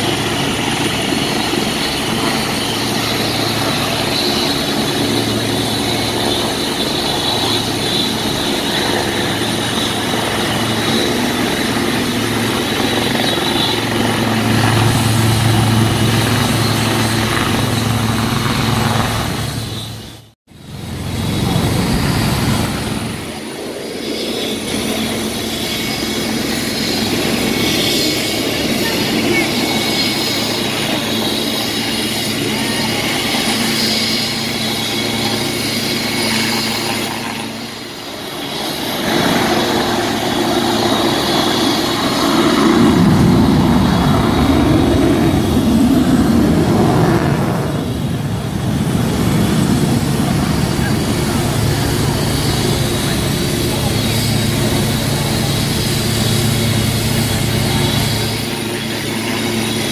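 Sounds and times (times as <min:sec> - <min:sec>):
helicopter turbine whine and rotors: 0:00.0 - 0:59.9.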